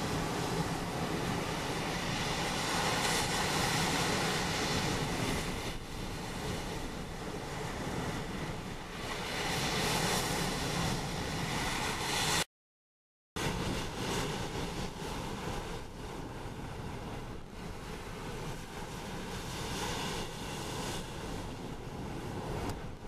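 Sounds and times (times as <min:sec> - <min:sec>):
wind buffeting microphone: 0:00.0 - 0:12.4, 0:13.4 - 0:23.0.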